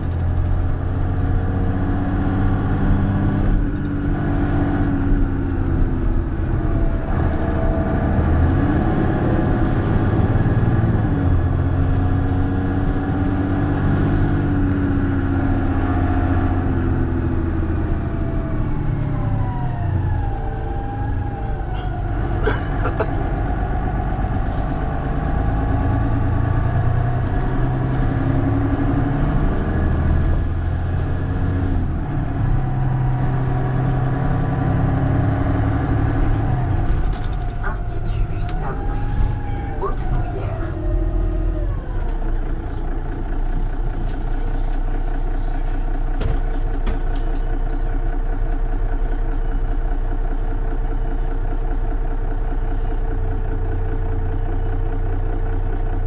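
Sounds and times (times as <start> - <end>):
bus engine and transmission whine: 0.0 - 56.0.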